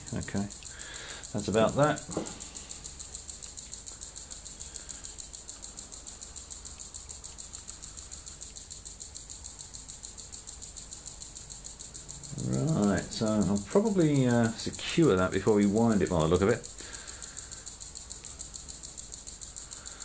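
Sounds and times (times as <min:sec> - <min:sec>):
rapid high-pitched ticking: 0:00.0 - 0:20.0.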